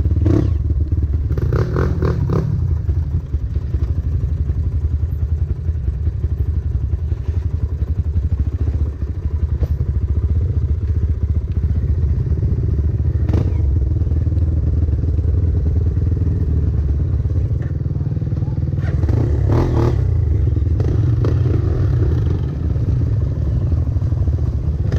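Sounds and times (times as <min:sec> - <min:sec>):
motorcycle engine at low revs: 0:00.0 - 0:24.9.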